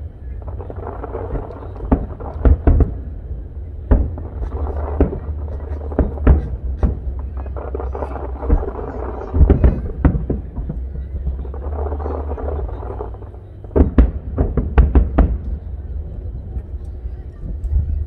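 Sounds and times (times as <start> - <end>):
crowd chatter: 0.0 - 18.0
fireworks booms and bangs: 0.0 - 18.0
low continuous rumble: 0.0 - 18.0.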